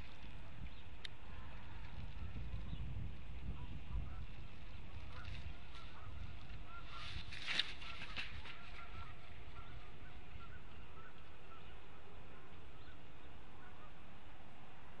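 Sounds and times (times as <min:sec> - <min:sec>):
distant birds calling: 0:00.0 - 0:15.0
low background rumble: 0:00.0 - 0:15.0.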